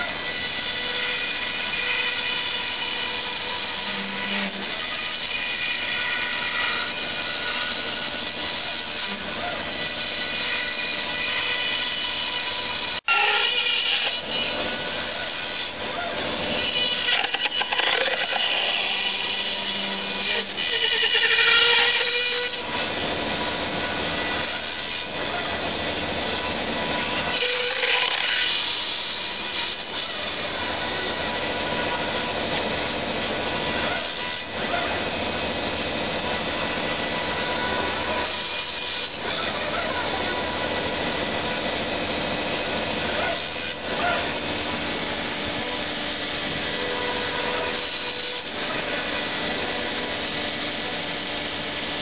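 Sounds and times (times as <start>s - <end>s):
end mill cutting foam: 0.0s - 52.0s
router spindle whine: 0.0s - 52.0s.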